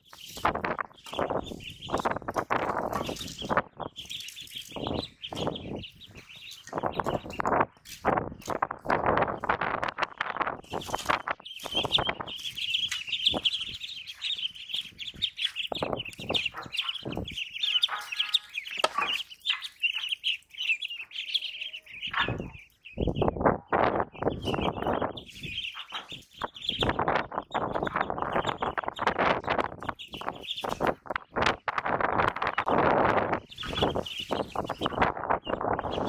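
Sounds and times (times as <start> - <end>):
ducklings peeping: 0.0 - 36.0.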